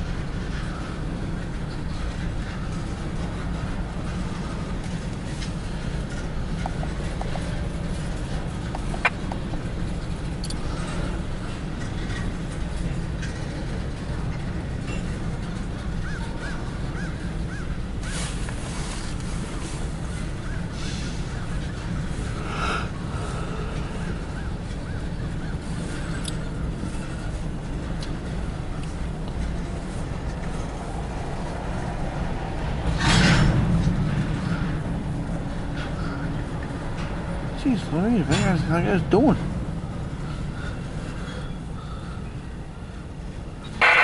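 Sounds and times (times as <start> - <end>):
freight train cars rumbling past: 0.0 - 44.0.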